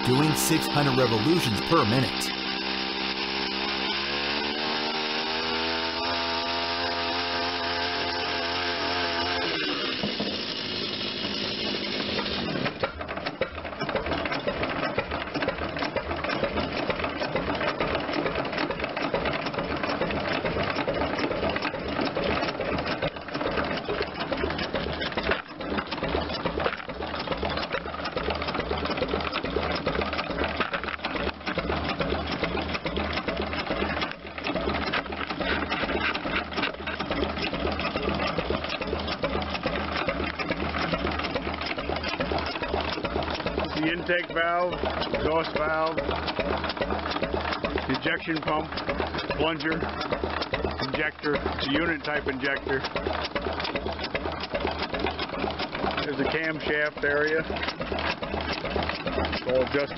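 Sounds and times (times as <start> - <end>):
diesel engine clattering: 11.9 - 59.9.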